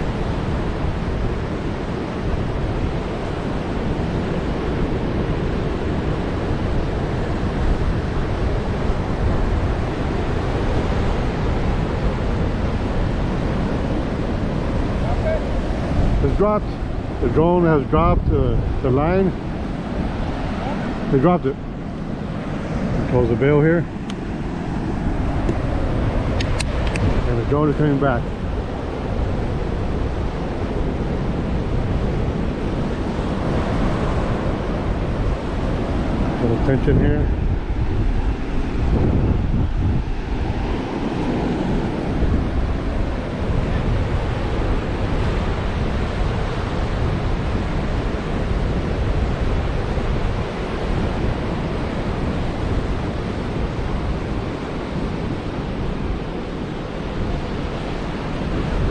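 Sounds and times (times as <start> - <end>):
surf breaking on beach: 0.0 - 58.9
wind buffeting microphone: 0.0 - 58.9.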